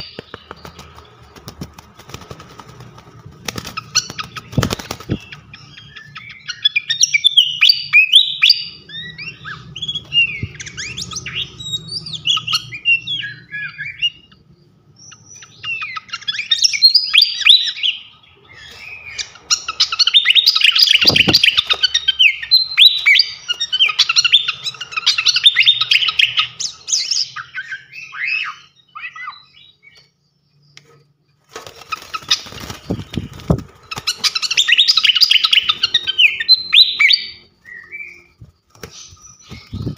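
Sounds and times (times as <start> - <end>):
songbird singing: 0.0 - 31.4, 32.0 - 39.9.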